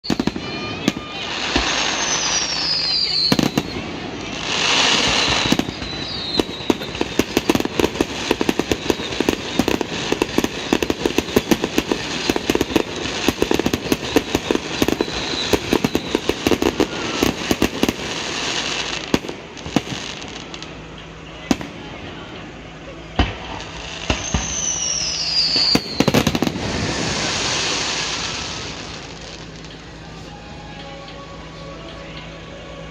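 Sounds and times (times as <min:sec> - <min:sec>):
firework hissing burst: 0:00.0 - 0:30.2
firework bangs: 0:00.0 - 0:30.3
fireworks crackling and popping: 0:00.0 - 0:32.9.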